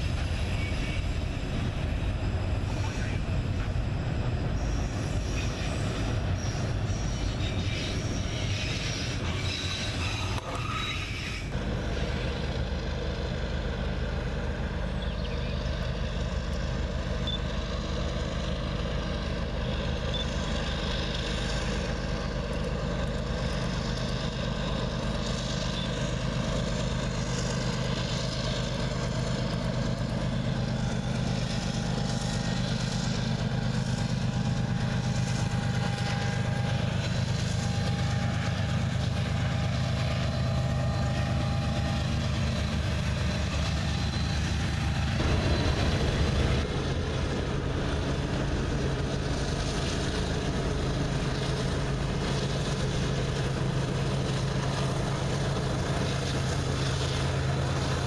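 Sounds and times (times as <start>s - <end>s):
diesel locomotives droning: 0.0s - 58.0s
freight cars rumbling on rails: 0.0s - 58.0s.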